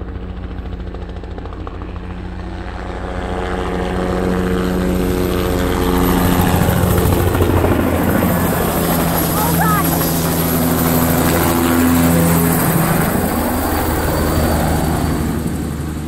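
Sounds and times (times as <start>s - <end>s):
helicopter flying low: 0.0s - 16.0s.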